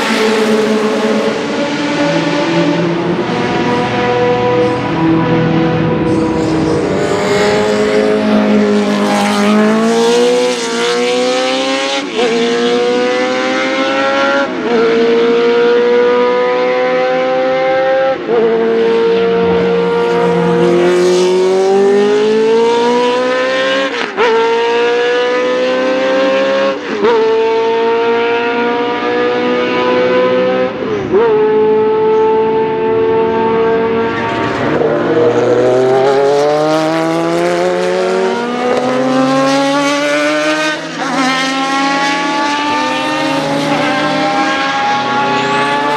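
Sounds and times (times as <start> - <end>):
race car engine accelerating: 0.0 - 45.9.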